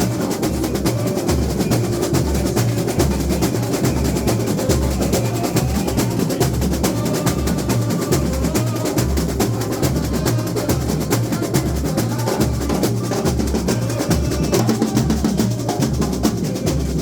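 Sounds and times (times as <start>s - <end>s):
bass drums beating: 0.0s - 17.0s
fast snare drum patter: 0.0s - 17.0s.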